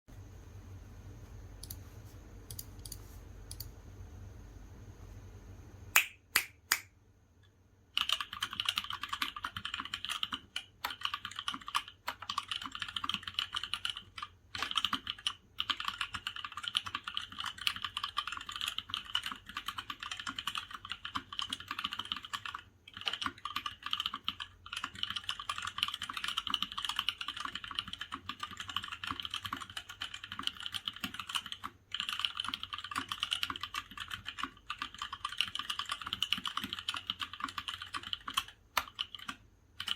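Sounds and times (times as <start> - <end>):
typing on mechanical keyboard: 7.9 - 39.9.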